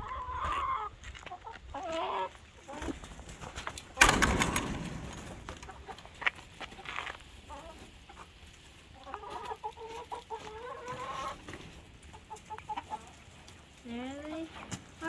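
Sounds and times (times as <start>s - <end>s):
hens clucking: 0.0s - 14.7s.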